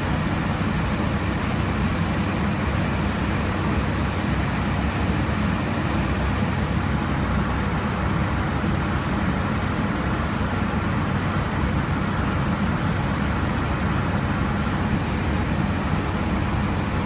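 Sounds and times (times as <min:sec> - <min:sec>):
airflow and engine noise: 0:00.0 - 0:17.0.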